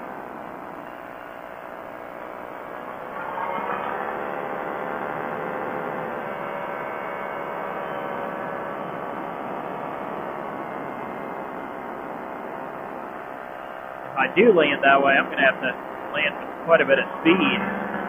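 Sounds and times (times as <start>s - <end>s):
ultralight engine and propeller droning: 0.0s - 18.0s.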